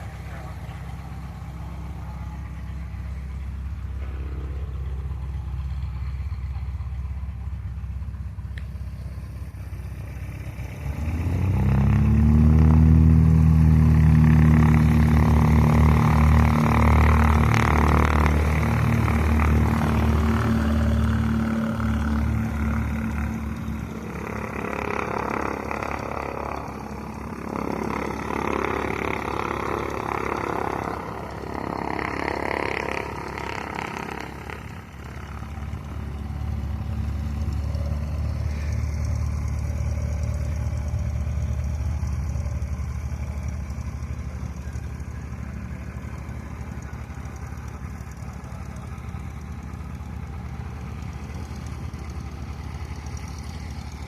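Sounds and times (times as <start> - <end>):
propeller airplane engine: 0.0 - 54.0.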